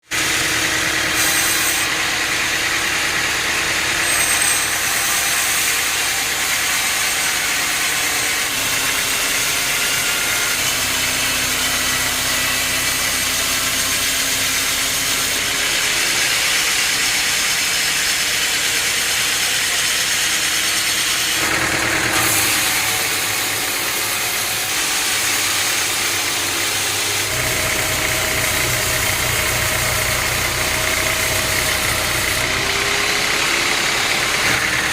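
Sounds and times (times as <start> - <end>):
heavy sawmill machinery running: 0.0 - 34.9.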